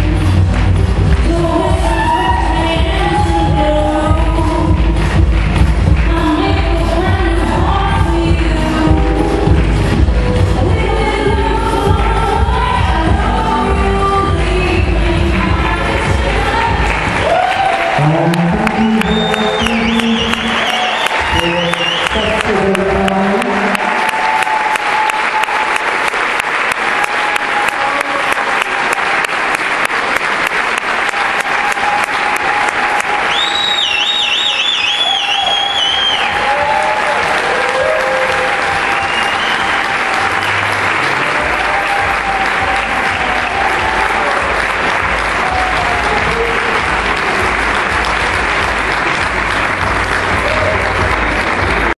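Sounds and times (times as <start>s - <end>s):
audience applauding: 0.0s - 6.4s, 14.4s - 52.0s.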